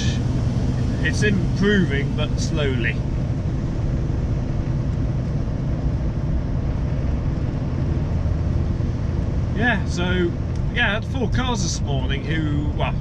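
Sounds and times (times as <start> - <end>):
lorry engine drone: 0.0 - 13.0
road noise: 0.0 - 13.0.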